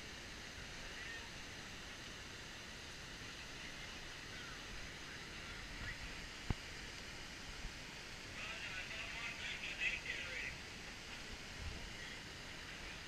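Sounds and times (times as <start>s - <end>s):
distant waterfall rushing: 0.0s - 13.0s.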